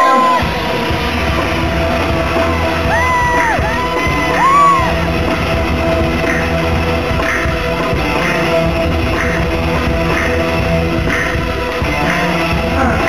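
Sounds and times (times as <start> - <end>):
live band through loudspeakers: 0.0 - 13.0.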